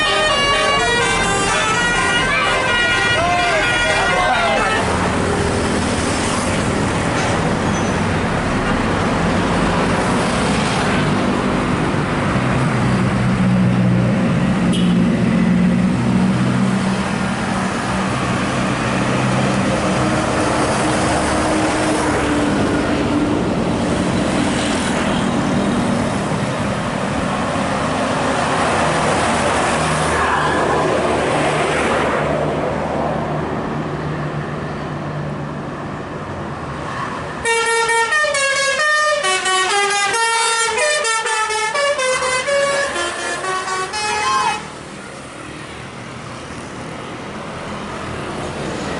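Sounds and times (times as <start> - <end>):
bus engine drone: 0.0 - 48.9
road traffic noise: 0.0 - 48.9.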